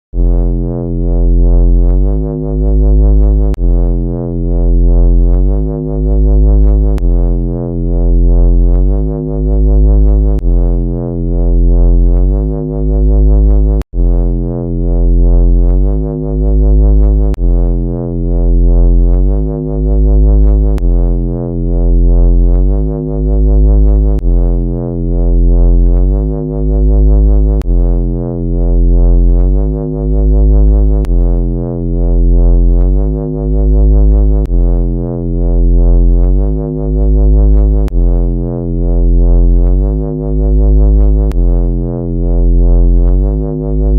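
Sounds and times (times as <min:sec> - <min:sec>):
pulsing electronic flying saucer drone: 0:00.1 - 0:43.9.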